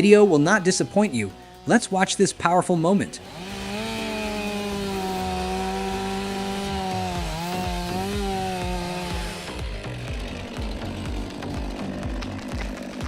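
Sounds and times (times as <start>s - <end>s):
chainsaw cutting tree: 0.0s - 13.0s.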